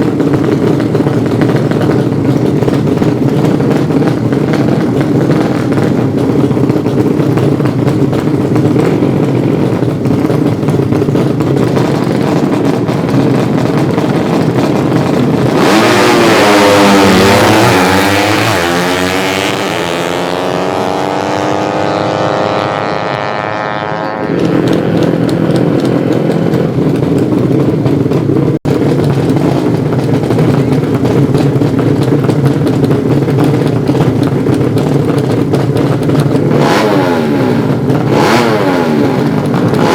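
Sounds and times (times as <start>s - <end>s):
motorcycle revving hard: 0.0s - 39.9s
racing motorcycle engines droning: 0.0s - 39.9s.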